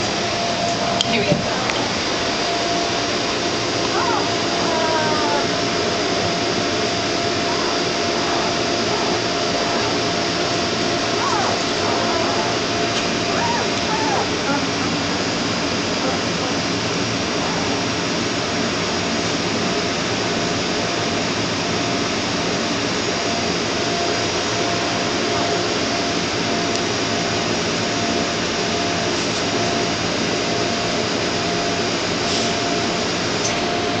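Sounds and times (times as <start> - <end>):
blower rushing noise: 0.0 - 34.0
faint high hum: 0.0 - 34.0.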